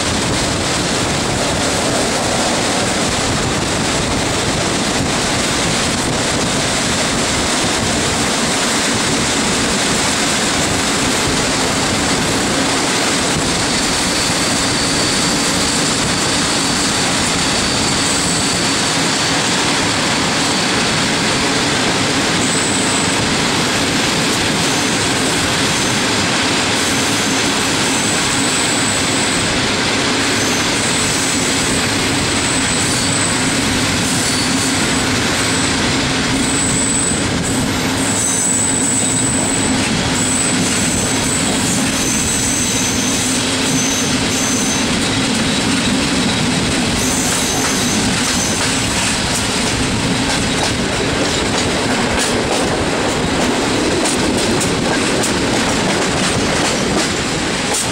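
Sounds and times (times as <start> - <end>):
train wheels on rails: 0.0 - 57.9
wind rushing: 0.0 - 57.9.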